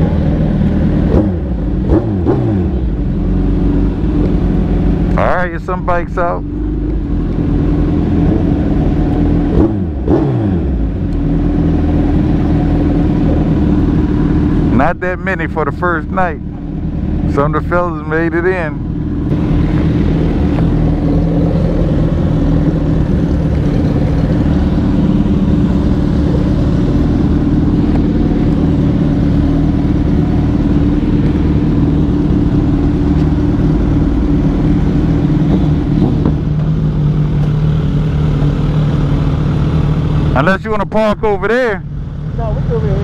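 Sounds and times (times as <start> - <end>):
motorcycle engines idling: 0.0 - 43.0.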